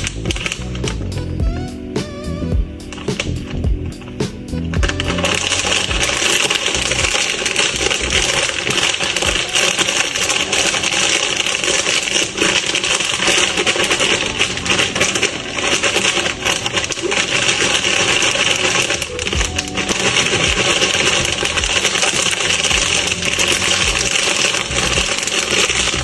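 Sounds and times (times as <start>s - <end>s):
snack wrappers crinkling: 0.0s - 1.3s, 2.8s - 26.0s.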